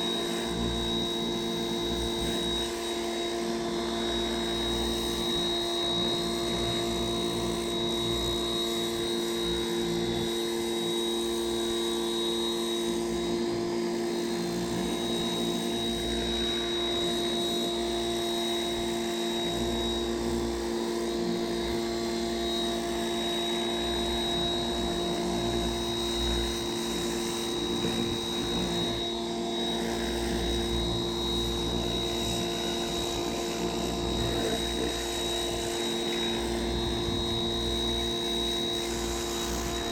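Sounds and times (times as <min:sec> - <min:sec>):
pressure washer drone: 0:00.0 - 0:39.9.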